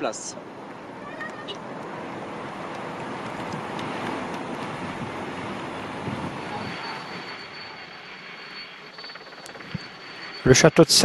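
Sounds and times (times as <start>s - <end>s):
rushing engine and wind noise: 0.0s - 11.0s
faint high steady whine: 1.6s - 11.0s.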